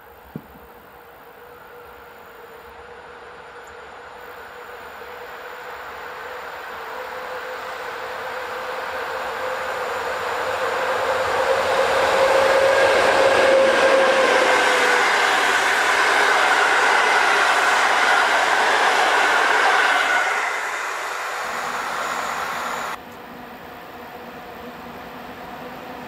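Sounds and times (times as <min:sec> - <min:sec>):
train wheels rolling on rails: 0:00.0 - 0:23.0
locomotive whine: 0:00.0 - 0:26.0.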